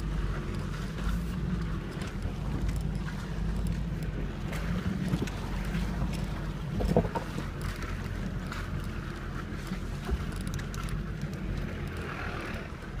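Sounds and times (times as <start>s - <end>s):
truck knocks and rattles: 0.0s - 12.0s
diesel engine running: 0.0s - 13.0s.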